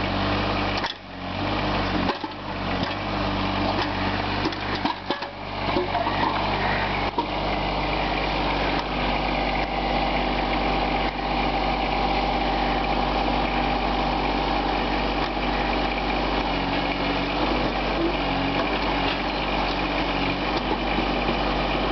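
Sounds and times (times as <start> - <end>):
small tractor engine running: 0.0 - 21.9.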